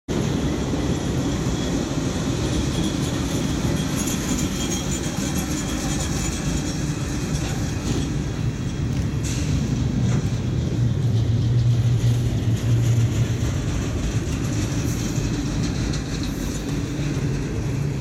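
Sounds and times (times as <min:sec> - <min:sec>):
diesel locomotive engines: 0:00.1 - 0:18.0
freight cars rolling on rails: 0:00.1 - 0:18.0.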